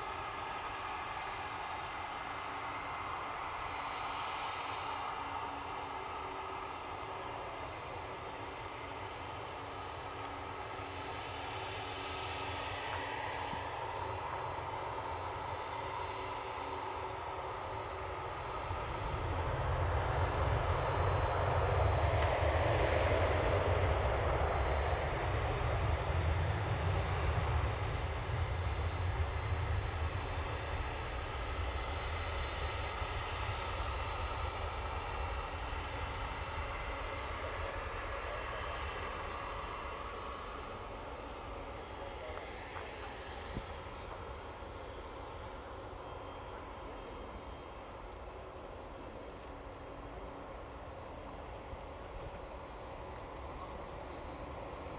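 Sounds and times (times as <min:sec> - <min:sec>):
jet engine low rumble: 0:00.0 - 0:54.9
jet engine whine: 0:00.0 - 0:54.9.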